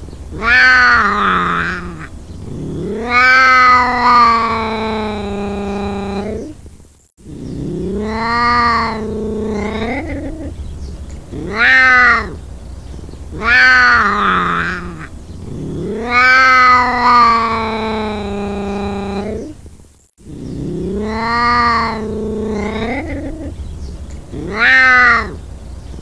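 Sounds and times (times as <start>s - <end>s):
ocelot yowling: 0.3s - 6.6s, 7.3s - 10.6s, 11.3s - 12.5s, 13.3s - 19.6s, 20.5s - 26.0s.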